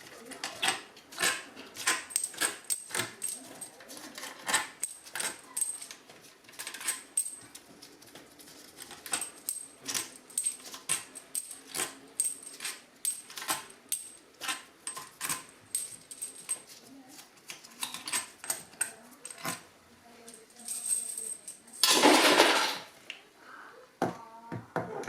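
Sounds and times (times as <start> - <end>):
metal parts clicking and tapping: 0.0 - 16.8, 17.5 - 19.6, 20.3 - 22.9.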